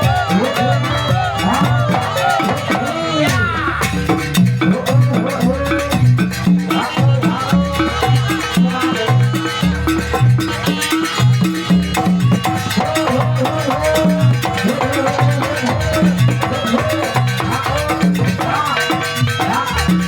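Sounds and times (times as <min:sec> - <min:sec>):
drums: 0:00.0 - 0:20.0
gamelan ensemble music: 0:00.0 - 0:20.0.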